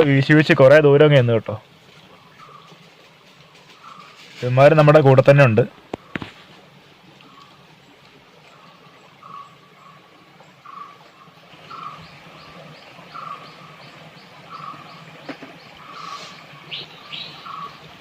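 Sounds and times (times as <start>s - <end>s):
river noise: 0.0s - 18.0s
high ticking bird calls: 2.0s - 4.4s, 5.1s - 6.2s, 7.0s - 18.0s.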